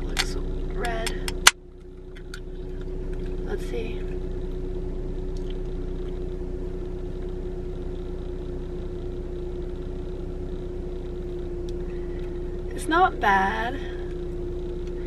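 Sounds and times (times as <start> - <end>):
car interior low hum: 0.0 - 15.0.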